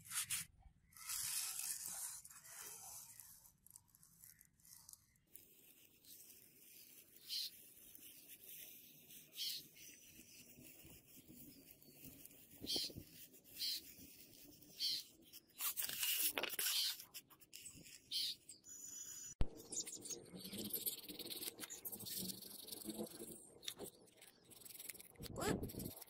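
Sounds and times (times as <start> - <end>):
fingers rubbing styrofoam: 0.0 - 26.0.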